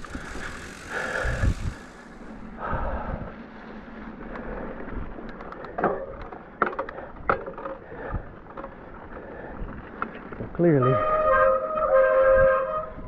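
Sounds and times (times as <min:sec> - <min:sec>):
bike knocking and rattling: 0:00.0 - 0:02.8, 0:03.4 - 0:12.8
bike tyres rolling on wet trail: 0:00.0 - 0:12.0.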